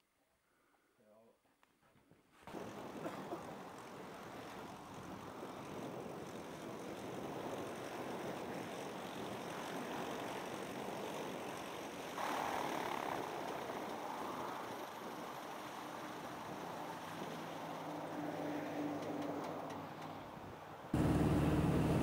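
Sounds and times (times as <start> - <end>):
propeller engine drone: 2.5 - 20.1, 21.0 - 22.0.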